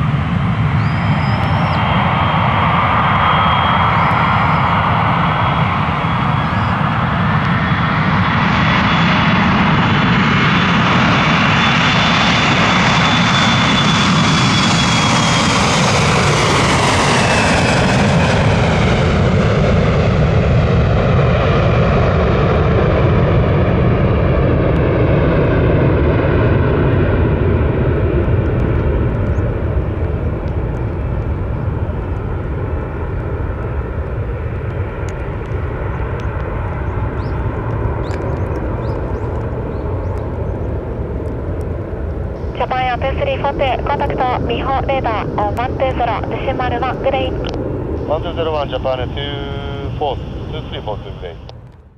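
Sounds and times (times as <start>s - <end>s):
jet engine roar: 0.0s - 51.9s.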